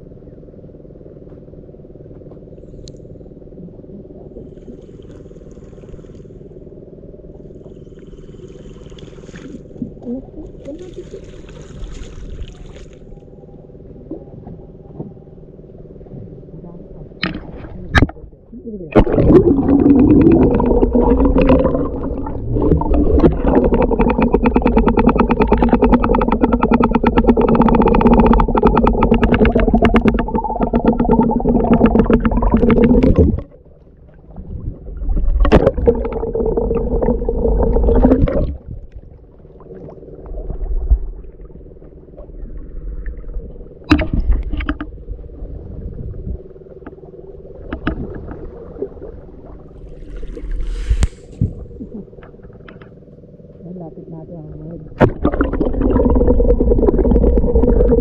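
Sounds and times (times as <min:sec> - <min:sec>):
muffled boat engine droning: 0:00.0 - 0:58.0.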